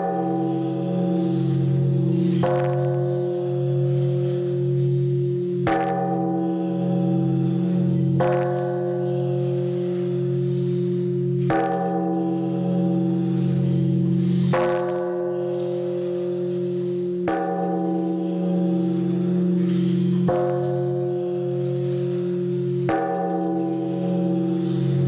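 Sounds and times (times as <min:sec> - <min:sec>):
large temple bell ringing: 0:00.0 - 0:25.0.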